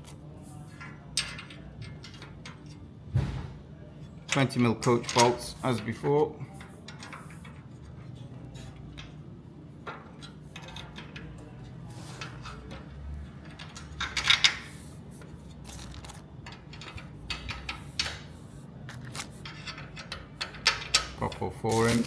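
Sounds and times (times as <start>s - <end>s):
metal bolts and nuts clinking: 0.7s - 2.9s, 4.2s - 9.2s, 9.8s - 22.0s.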